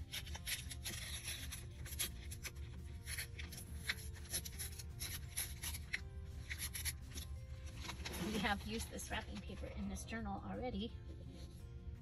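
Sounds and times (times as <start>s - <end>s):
wrapping paper rustling: 0.0s - 9.8s
soft background music: 0.0s - 12.0s.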